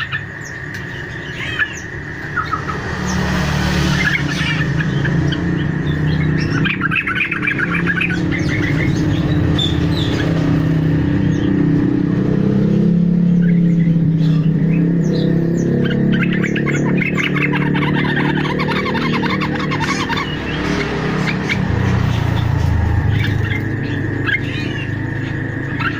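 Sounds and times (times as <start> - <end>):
birds chattering and trilling: 0.0 - 25.9.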